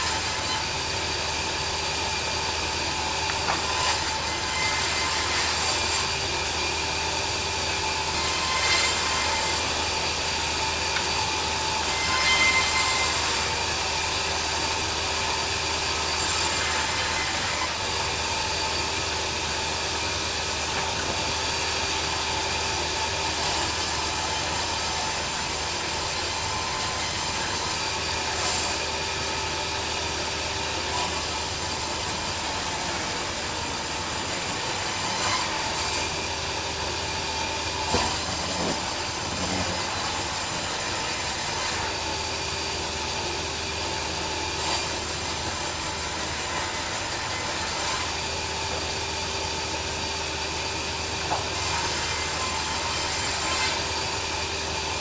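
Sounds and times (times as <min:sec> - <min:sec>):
band saw cutting log: 0:00.0 - 0:43.1, 0:43.7 - 0:49.5, 0:50.1 - 0:55.0.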